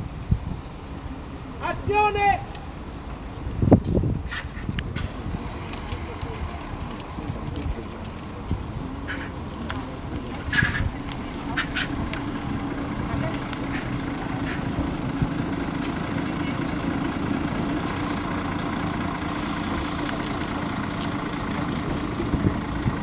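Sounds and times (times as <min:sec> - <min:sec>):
bus diesel engine idling: 0:00.1 - 0:23.0.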